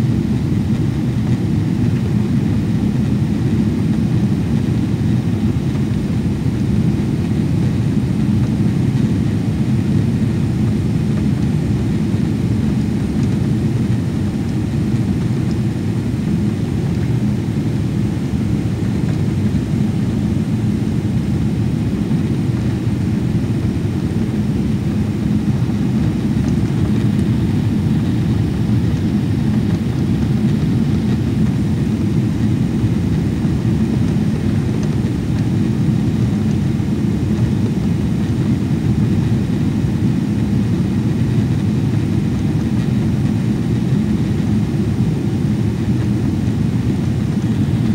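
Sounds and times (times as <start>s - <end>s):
faint constant hum: 0.0s - 47.9s
jet airliner cabin noise: 0.0s - 47.9s.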